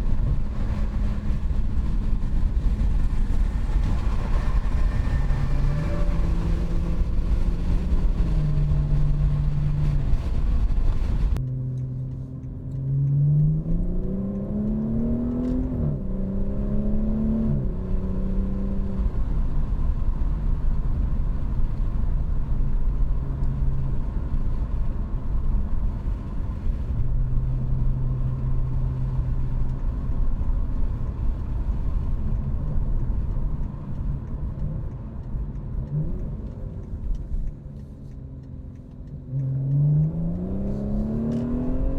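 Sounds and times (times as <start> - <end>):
car engine accelerating: 0.0 - 41.9
road noise: 0.0 - 41.9.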